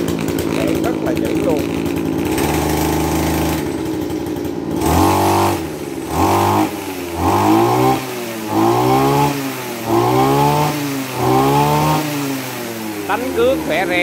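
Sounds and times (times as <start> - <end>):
brush cutter engine revving: 0.0 - 14.0.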